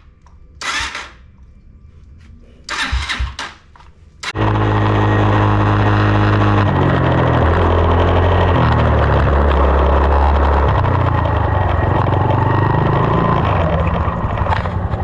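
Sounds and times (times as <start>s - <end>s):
dirt bike engine starting: 0.6s - 1.3s, 2.7s - 15.0s.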